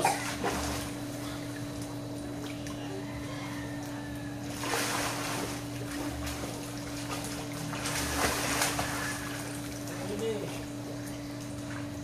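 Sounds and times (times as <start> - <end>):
pool water splashing: 0.0 - 12.0
steady low hum: 0.0 - 12.0.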